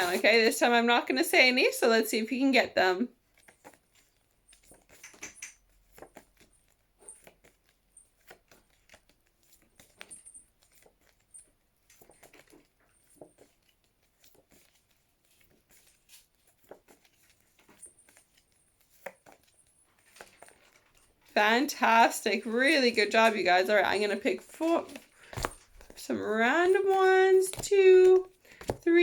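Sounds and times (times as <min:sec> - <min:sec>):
flashcards clicking and rustling: 0:03.2 - 0:29.0.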